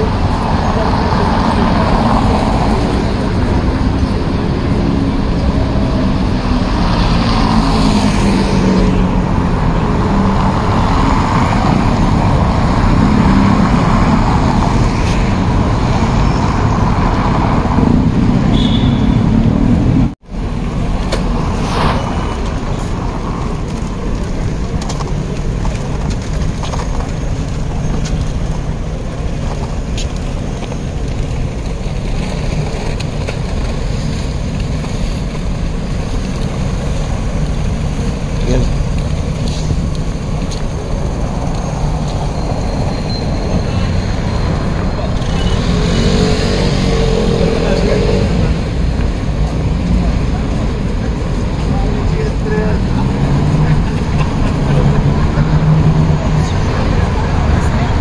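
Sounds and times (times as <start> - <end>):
city street traffic rumble: 0.0 - 58.0.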